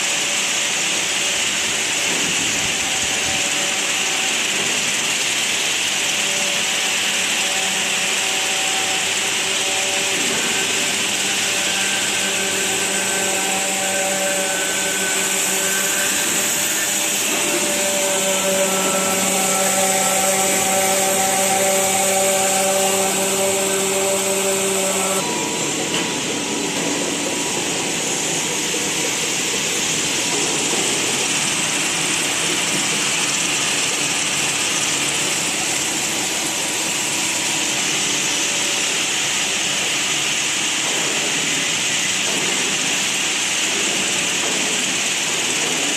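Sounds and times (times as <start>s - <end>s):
machinery hiss: 0.0s - 45.9s
machinery hum: 0.0s - 45.9s.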